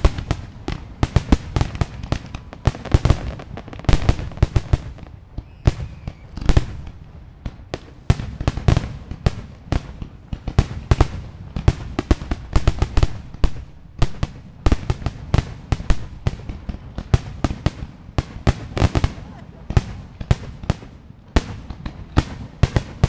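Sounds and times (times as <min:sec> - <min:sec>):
fireworks bangs and pops: 0:00.0 - 0:23.0.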